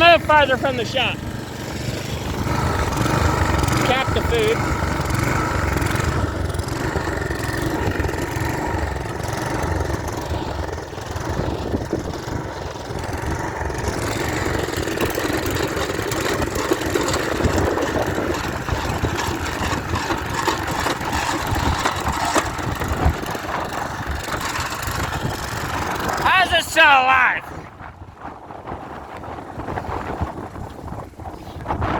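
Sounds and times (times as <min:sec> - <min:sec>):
engine knocking: 0:00.0 - 0:26.2
pressure washer engine running roughly: 0:00.0 - 0:26.5.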